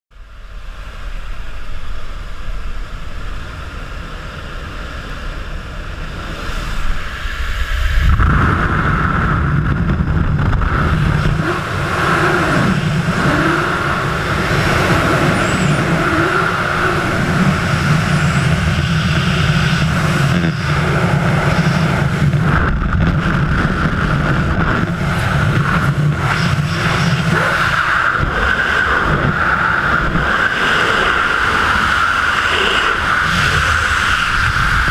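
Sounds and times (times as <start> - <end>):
aircraft noise: 0.2 - 34.9
wind buffeting microphone: 1.1 - 34.9.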